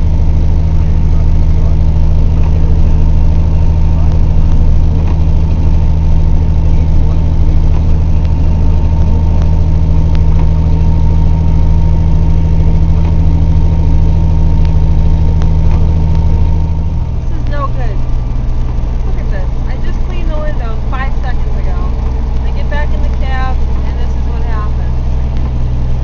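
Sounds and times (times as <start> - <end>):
thin steady whine: 0.0 - 26.0
truck engine drone: 0.0 - 26.0.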